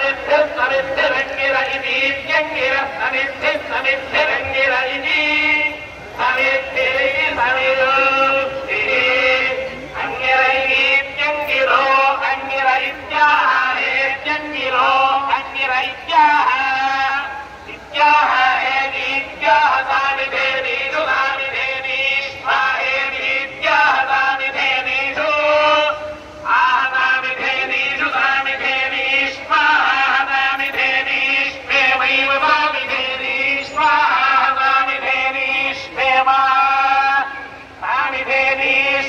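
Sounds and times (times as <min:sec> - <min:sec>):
devotional chanting: 0:00.0 - 0:39.0.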